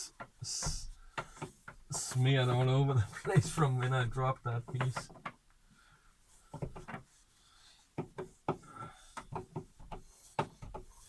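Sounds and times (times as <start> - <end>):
rubbing and scraping strokes: 0.0 - 5.1, 6.2 - 11.0.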